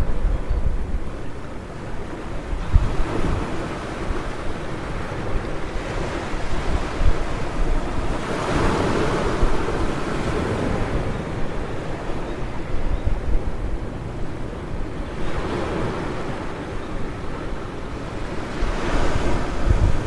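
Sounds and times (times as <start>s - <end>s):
ocean surf washing onto beach: 0.0s - 20.0s
wind buffeting microphone: 0.0s - 20.0s.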